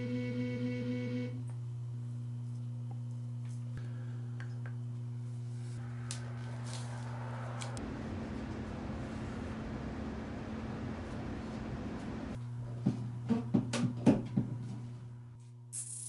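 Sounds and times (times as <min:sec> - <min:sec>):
low hum of held tones: 0:00.0 - 0:13.5.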